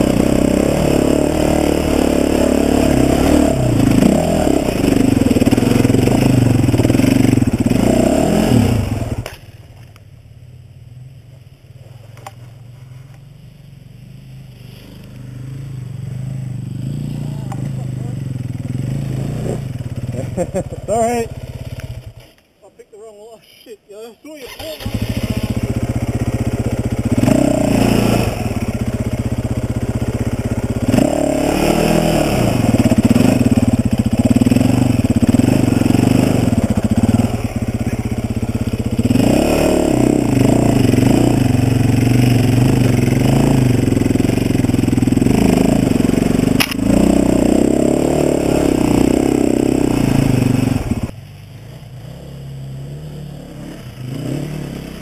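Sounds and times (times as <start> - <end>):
dirt bike engine: 0.0 - 23.4, 24.0 - 55.0.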